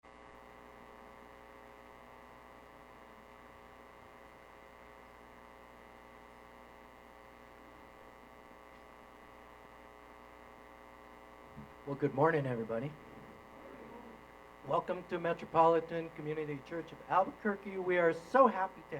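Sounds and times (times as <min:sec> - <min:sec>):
faint electrical mains hum: 0:00.1 - 0:18.9.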